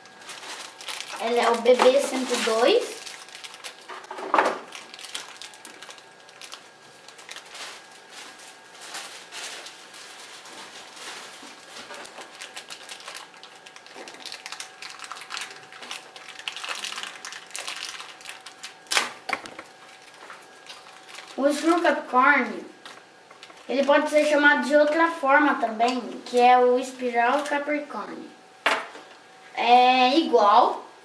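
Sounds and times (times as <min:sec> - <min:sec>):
plastic bag crinkling: 0:00.0 - 0:22.2, 0:22.8 - 0:25.0, 0:26.8 - 0:27.7.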